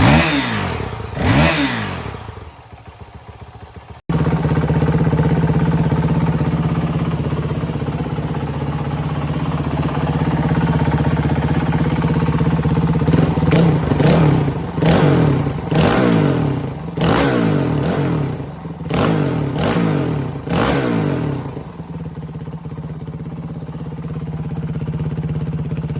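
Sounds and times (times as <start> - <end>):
motorcycle engine idling and revving: 0.0 - 25.9.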